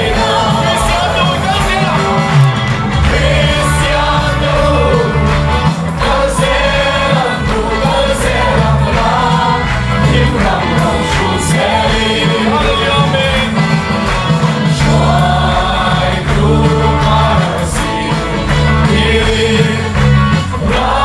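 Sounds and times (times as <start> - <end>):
voices singing together: 0.0 - 2.3, 2.9 - 21.0
band music with heavy bass: 0.0 - 21.0.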